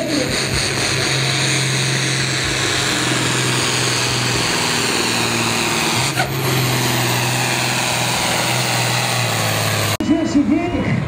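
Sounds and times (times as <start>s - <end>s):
tractor diesel engine under heavy load: 0.0s - 11.0s.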